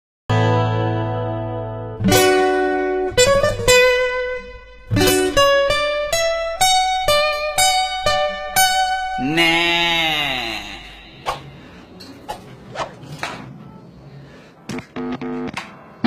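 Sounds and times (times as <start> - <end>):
guitar picking melody: 0.3 - 12.3, 13.5 - 16.0.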